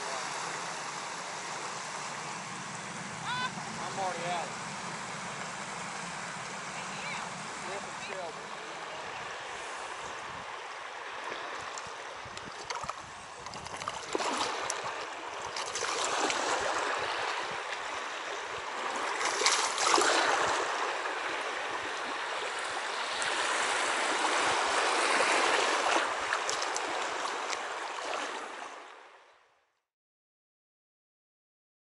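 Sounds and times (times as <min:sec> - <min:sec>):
small waves lapping and splashing: 0:00.0 - 0:29.6.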